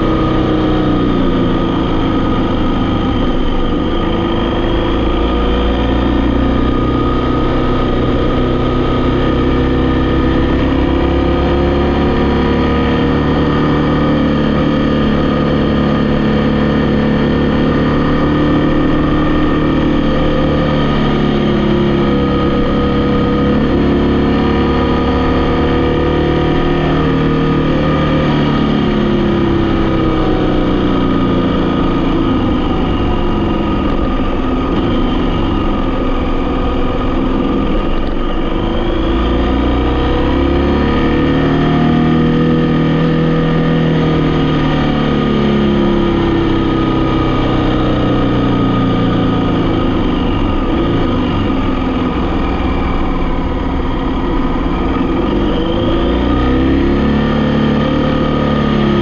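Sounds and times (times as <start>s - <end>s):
vehicle engine while driving: 0.0s - 59.0s.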